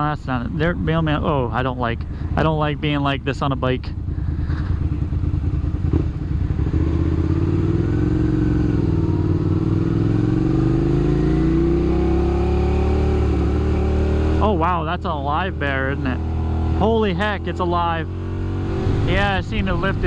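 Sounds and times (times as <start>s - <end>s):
motorcycle engine accelerating: 0.0s - 20.0s
wind and road noise: 0.0s - 20.0s.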